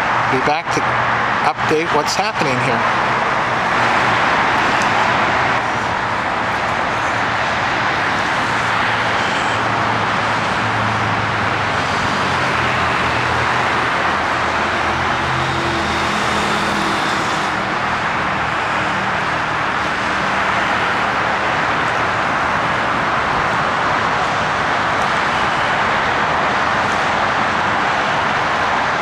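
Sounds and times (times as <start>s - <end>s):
car and truck engines humming: 0.0s - 29.0s.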